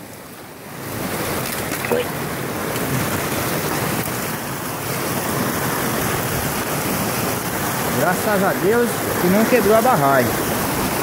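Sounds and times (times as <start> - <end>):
river water rushing over spillway: 0.0 - 11.0.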